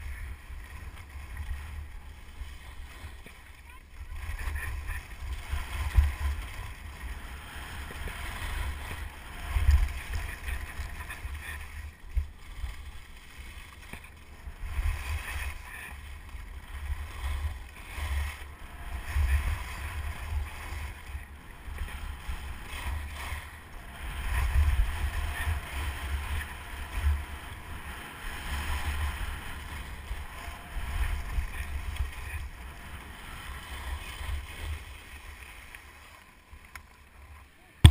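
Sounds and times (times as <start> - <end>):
skis scraping over packed snow: 0.0 - 37.9.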